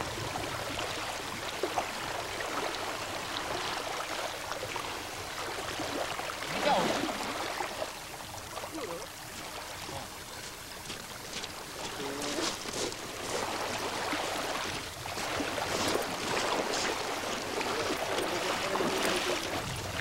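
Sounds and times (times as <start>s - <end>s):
lake water lapping: 0.0s - 20.0s.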